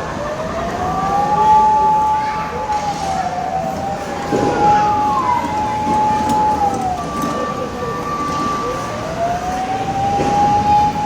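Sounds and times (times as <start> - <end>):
fire truck siren wailing: 0.0 - 11.0.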